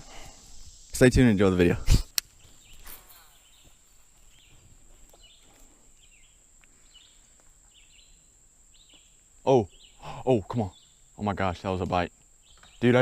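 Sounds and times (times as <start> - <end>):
faint bird chirping: 2.3 - 13.0.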